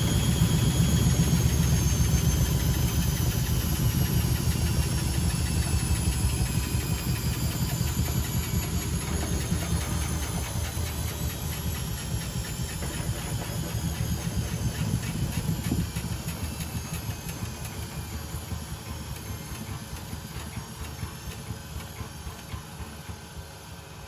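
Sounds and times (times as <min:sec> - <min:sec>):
washing machine rumble and hiss: 0:00.0 - 0:24.0.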